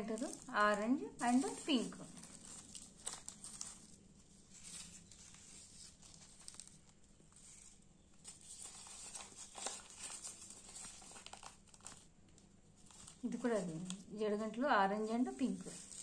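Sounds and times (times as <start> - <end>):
paper packets crinkling: 0.0 - 16.0.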